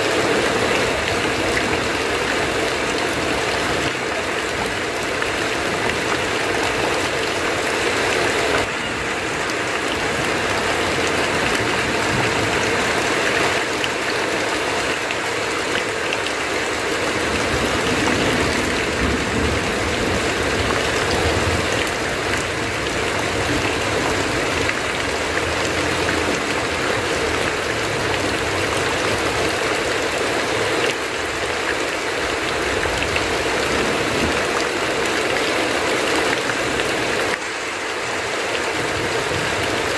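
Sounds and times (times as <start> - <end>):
heavy rain on a tin roof: 0.0 - 39.9
water running off eaves: 0.0 - 39.9.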